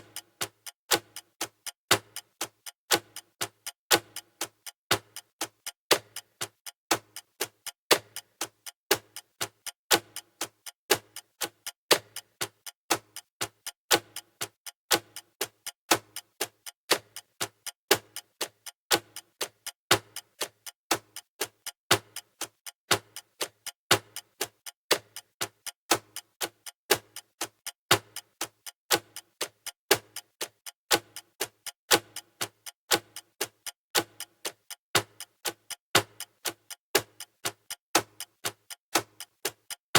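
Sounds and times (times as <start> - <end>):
clock-like timer ticking: 0.0 - 39.9.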